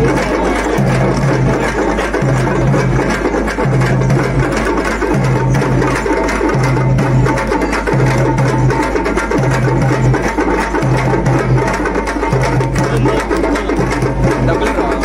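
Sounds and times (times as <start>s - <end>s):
frame drums beaten with sticks: 0.0s - 15.0s.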